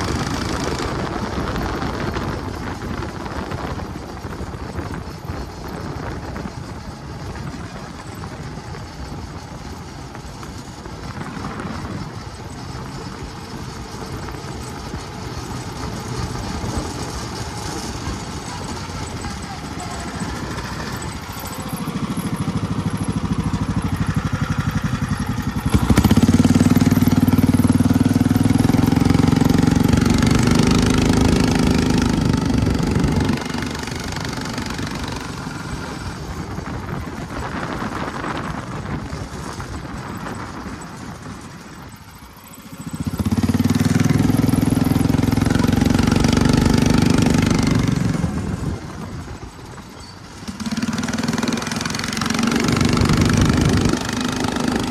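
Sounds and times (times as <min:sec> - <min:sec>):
single-cylinder buggy engine running: 0:00.0 - 0:54.9.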